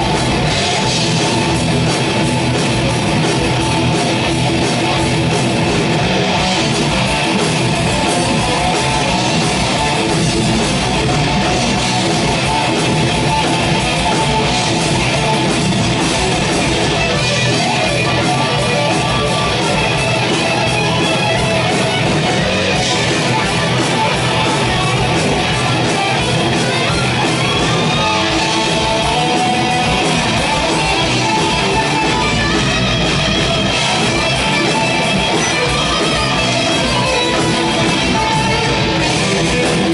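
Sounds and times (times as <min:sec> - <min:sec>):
bass guitar: 0:00.0 - 0:39.9
distorted electric guitars: 0:00.0 - 0:39.9
fast drumming: 0:00.0 - 0:39.9.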